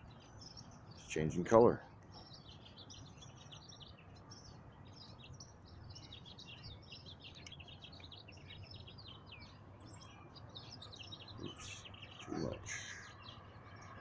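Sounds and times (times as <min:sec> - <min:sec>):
faint birdsong chirps and trills: 0:00.0 - 0:14.0.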